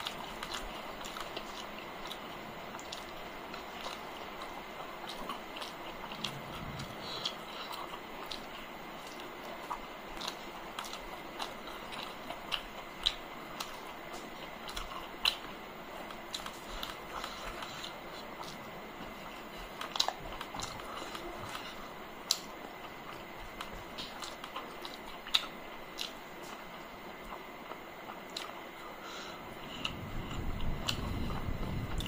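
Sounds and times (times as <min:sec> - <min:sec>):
chewing and lip smacks: 0:00.0 - 0:32.0.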